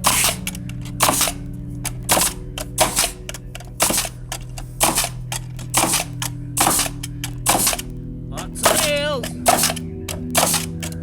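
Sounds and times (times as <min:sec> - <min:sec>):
hammer striking nails: 0:00.0 - 0:07.9, 0:08.6 - 0:11.0.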